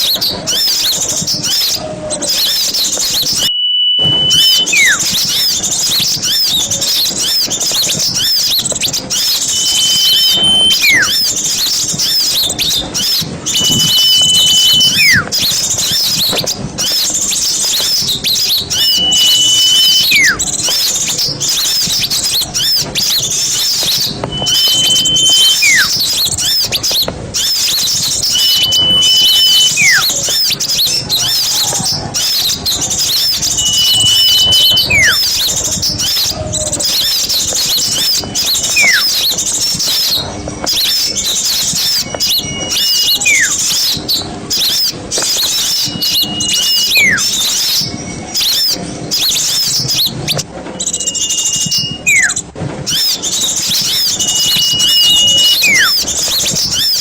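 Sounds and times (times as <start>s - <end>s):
bird whistle with falling sweep: 0.0s - 57.0s
songbirds chirping: 0.0s - 57.0s.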